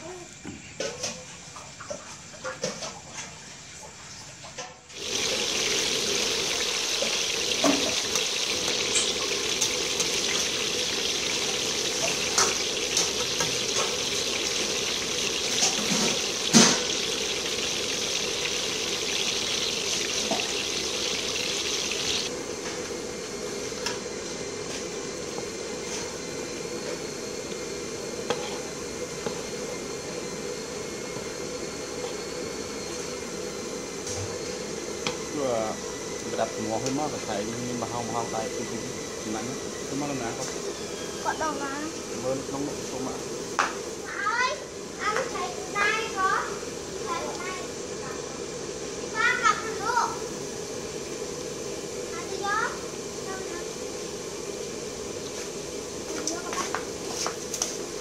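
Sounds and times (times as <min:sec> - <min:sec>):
food sizzling in hot oil: 0:04.8 - 0:58.0.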